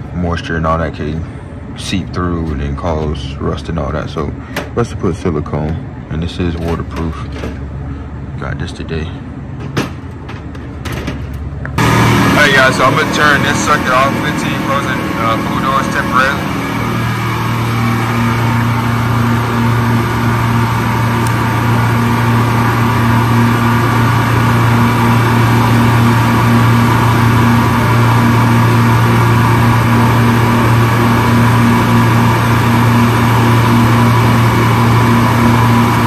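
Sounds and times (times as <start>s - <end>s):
refrigeration compressor hum: 0.0s - 36.0s.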